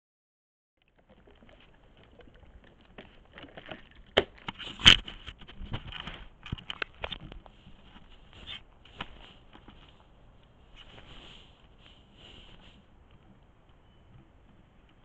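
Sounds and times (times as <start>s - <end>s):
animal rustling against camera: 1.0s - 14.7s.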